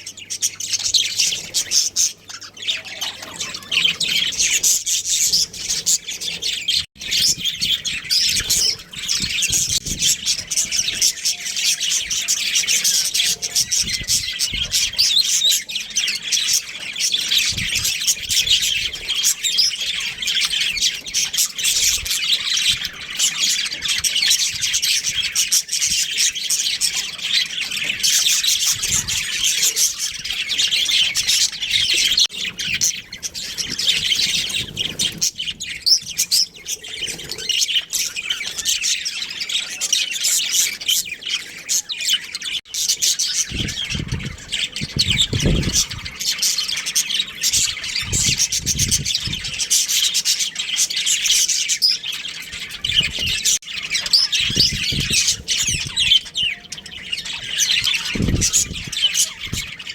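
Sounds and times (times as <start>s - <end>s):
budgerigars chirping and chattering: 0.0s - 59.9s.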